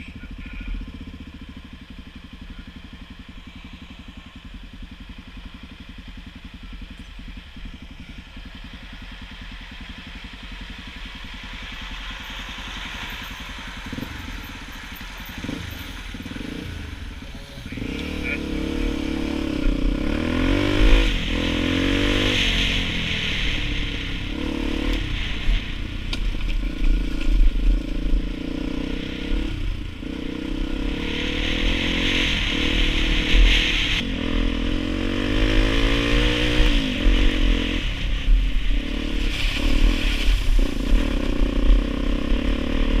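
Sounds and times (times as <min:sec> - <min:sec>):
dirt bike engine accelerating: 0:00.0 - 0:43.0.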